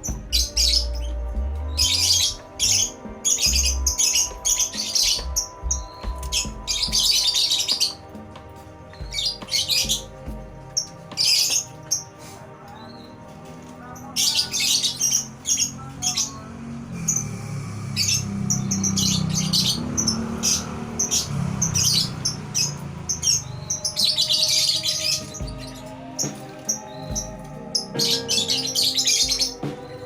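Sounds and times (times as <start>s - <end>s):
canaries chirping: 0.0s - 30.0s.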